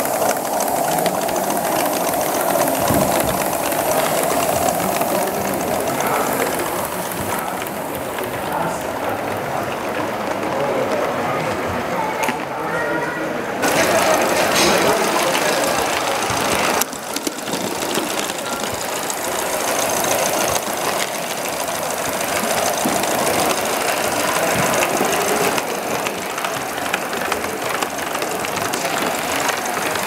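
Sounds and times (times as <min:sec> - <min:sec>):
rail clatter: 0:00.0 - 0:12.5, 0:13.6 - 0:30.0
model steam locomotive running: 0:00.0 - 0:30.0.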